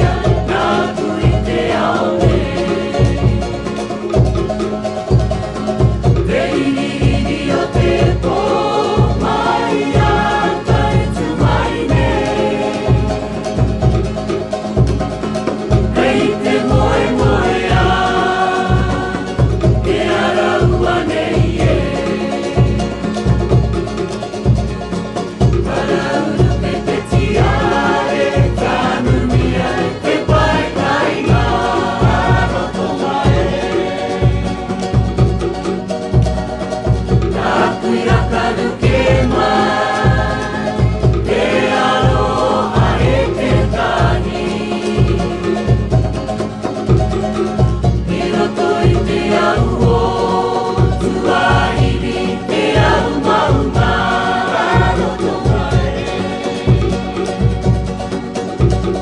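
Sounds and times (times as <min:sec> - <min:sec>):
group singing in harmony: 0:00.0 - 0:59.0
ukulele strumming: 0:00.0 - 0:59.0.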